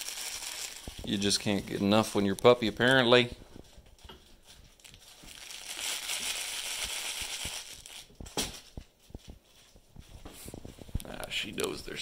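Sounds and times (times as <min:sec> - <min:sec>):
plush toy crinkle crackling: 0:00.0 - 0:11.2.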